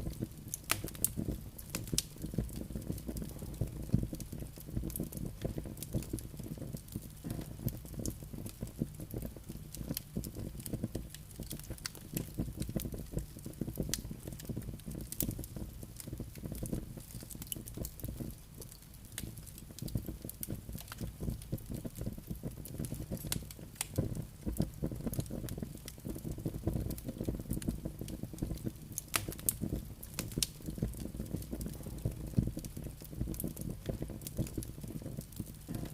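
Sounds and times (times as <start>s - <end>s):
logs crackling and popping: 0.0s - 35.9s
low rumble of flame: 0.0s - 35.9s.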